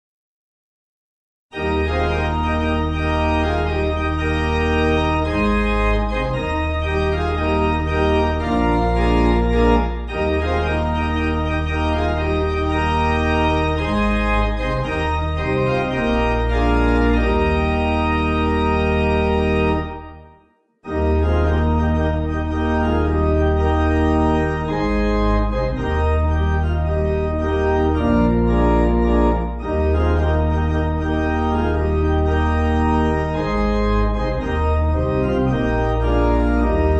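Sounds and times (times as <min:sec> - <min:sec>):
organ playing held chords: 0:01.5 - 0:36.9.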